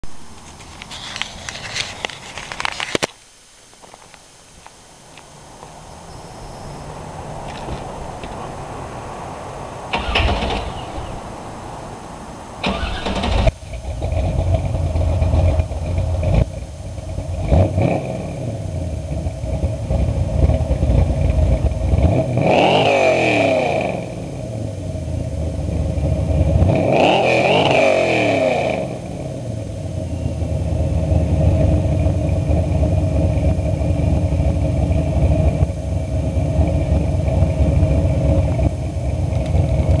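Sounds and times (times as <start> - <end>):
car engine idling and revving: 5.6 - 40.0.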